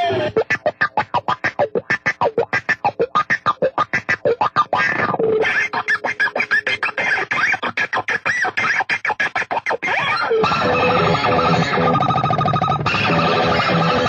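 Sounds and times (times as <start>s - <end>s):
distorted electric guitar riff: 0.0s - 14.0s
chopped stuttering electronic sounds: 0.1s - 8.2s, 9.9s - 14.0s.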